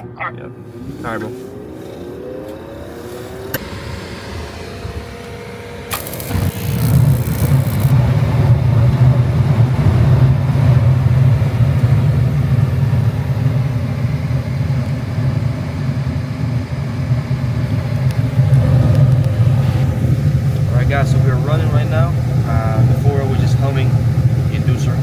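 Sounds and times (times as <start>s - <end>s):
furnace fans droning: 0.0s - 25.0s.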